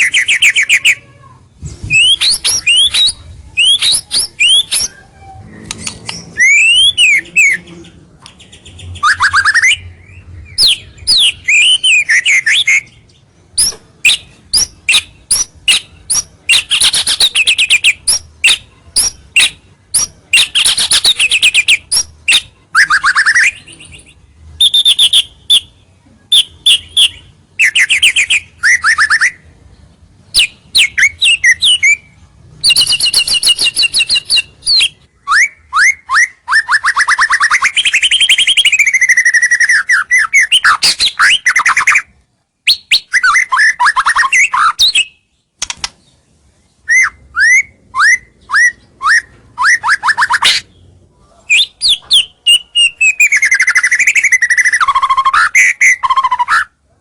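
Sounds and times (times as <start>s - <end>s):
bird singing varied song: 0.0s - 56.8s.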